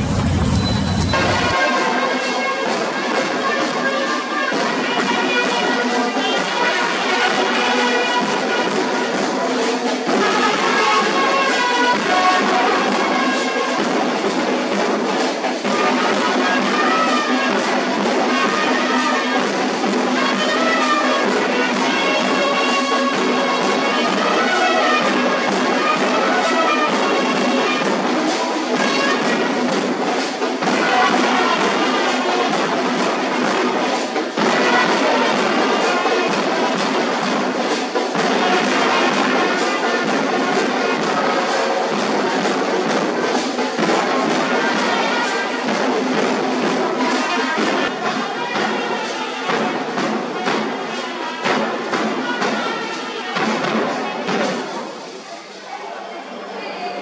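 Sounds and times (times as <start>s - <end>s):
drum: 0.0s - 55.2s
brass band playing: 0.0s - 56.7s.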